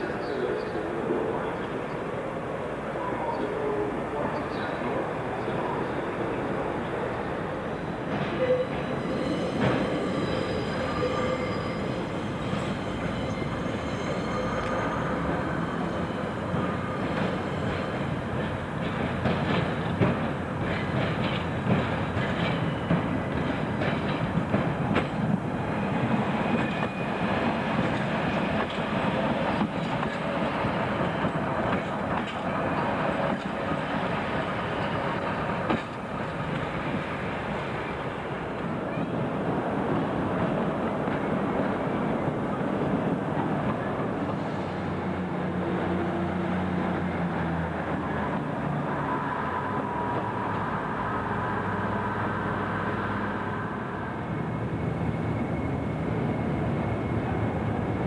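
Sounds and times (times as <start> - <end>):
trains rumbling: 0.0 - 58.0.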